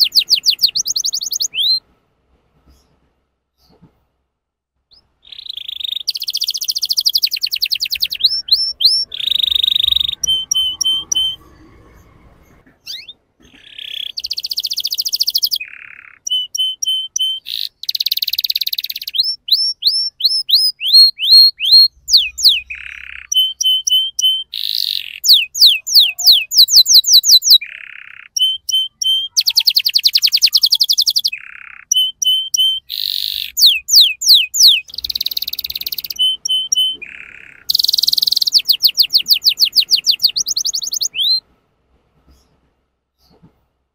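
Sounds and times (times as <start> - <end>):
canary singing rapid trills: 0.0 - 1.8, 4.9 - 11.7, 12.8 - 41.4.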